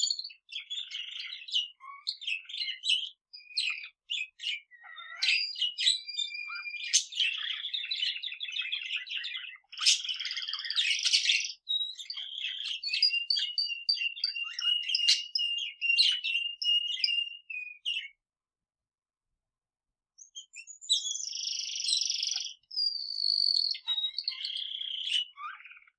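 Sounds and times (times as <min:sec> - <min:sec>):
birds chattering warble: 0:00.0 - 0:18.2, 0:20.2 - 0:25.9.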